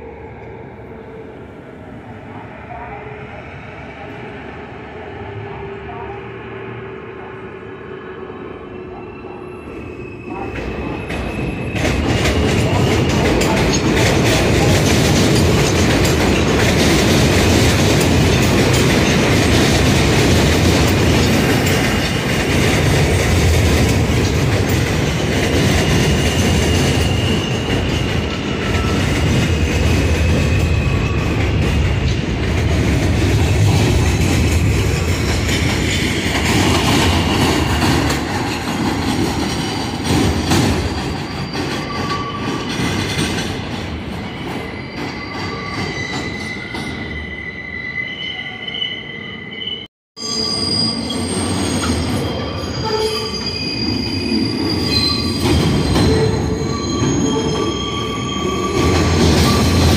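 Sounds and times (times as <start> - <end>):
train rumbling: 0.0 - 47.4, 50.6 - 59.9.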